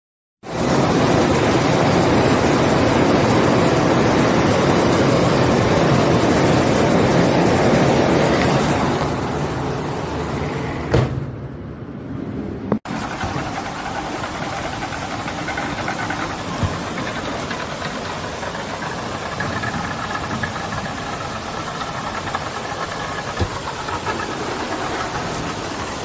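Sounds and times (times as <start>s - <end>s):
torrent of water rushing: 0.4s - 10.6s, 12.9s - 26.0s.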